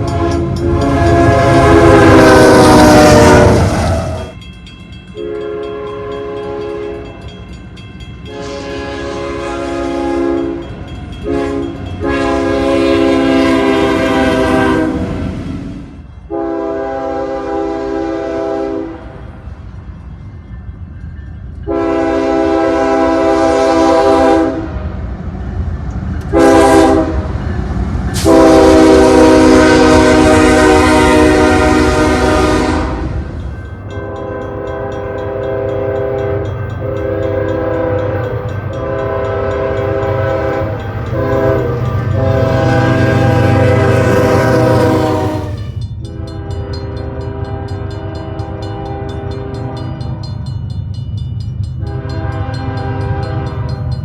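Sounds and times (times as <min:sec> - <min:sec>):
locomotive air horn chord: 0:00.0 - 0:04.4, 0:05.2 - 0:07.2, 0:08.2 - 0:15.2, 0:16.3 - 0:19.2, 0:21.7 - 0:24.8, 0:26.3 - 0:27.3, 0:28.2 - 0:33.3, 0:33.9 - 0:50.1, 0:51.8 - 0:53.7
low train rumble: 0:00.0 - 0:54.0.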